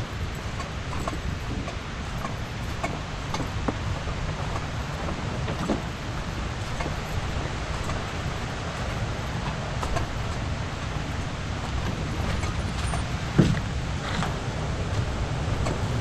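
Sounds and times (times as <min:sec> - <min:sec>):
wind buffeting microphone: 0:00.0 - 0:16.0
soft knocks from walking: 0:00.6 - 0:11.0, 0:11.7 - 0:16.0.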